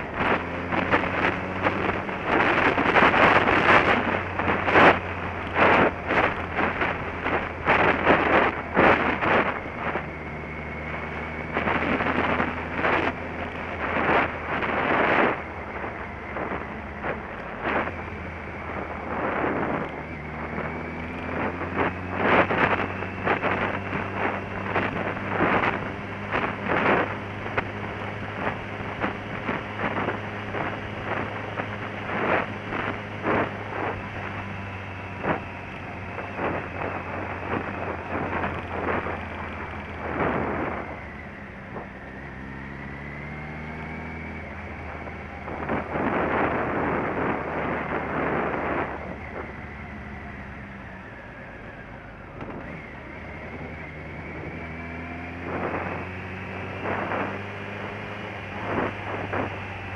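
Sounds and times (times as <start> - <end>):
motorcycle engine humming: 0.0 - 59.9
wind buffeting microphone: 0.0 - 59.9.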